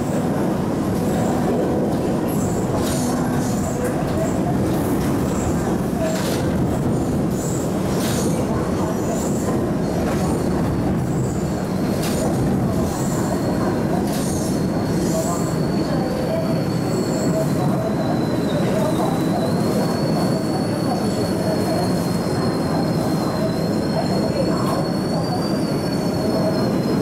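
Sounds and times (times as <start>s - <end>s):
train carriage rumbling and rattling: 0.0s - 27.0s.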